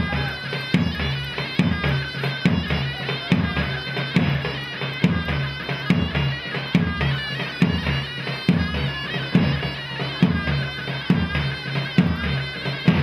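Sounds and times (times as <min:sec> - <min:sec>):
shrill reed pipe melody: 0:00.0 - 0:13.0.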